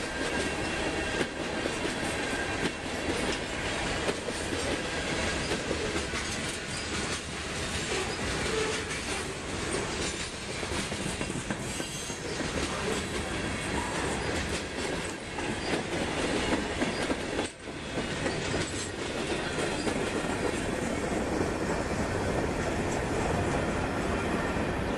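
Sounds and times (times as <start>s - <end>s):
train wheels clattering on rails: 0.0s - 24.9s.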